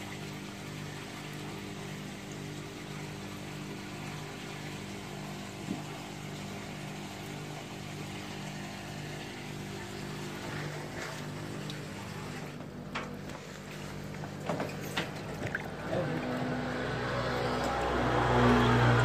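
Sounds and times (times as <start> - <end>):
pump humming: 0.0 - 19.0
water churning and bubbling: 0.0 - 19.0.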